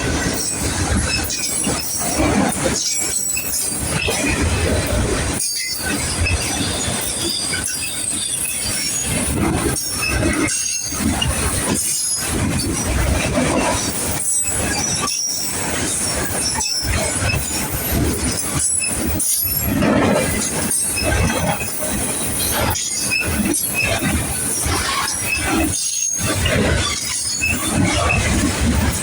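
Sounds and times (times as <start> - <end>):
freight train cars rolling past: 0.0 - 29.0
steel wheels squealing on rail: 0.0 - 29.0.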